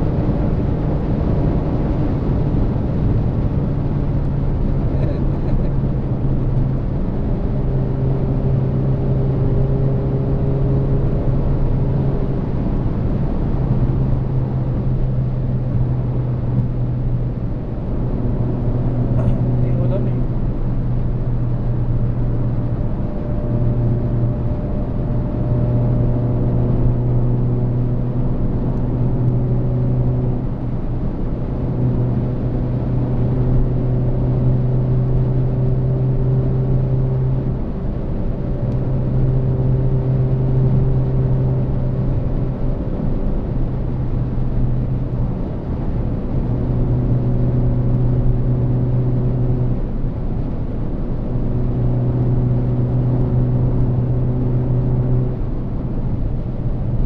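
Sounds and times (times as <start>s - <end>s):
low engine drone: 0.0s - 57.0s
road and wind noise: 0.0s - 57.0s.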